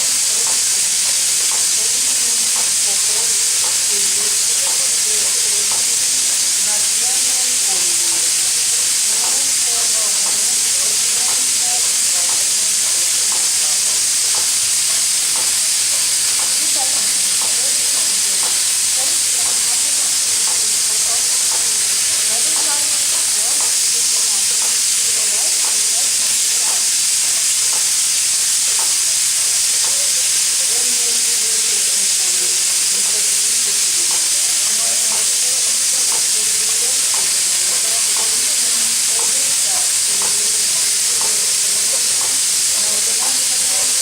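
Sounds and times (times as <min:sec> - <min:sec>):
steam locomotive hissing steam: 0:00.0 - 0:44.0.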